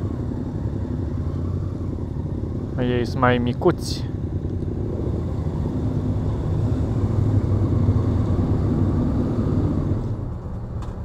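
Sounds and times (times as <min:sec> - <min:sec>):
motorcycle engine at low speed: 0:00.0 - 0:11.0.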